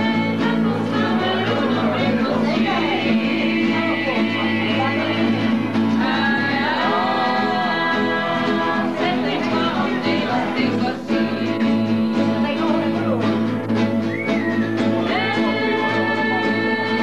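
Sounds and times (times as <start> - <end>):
acoustic guitar chords: 0.0 - 17.0
person singing: 0.0 - 17.0.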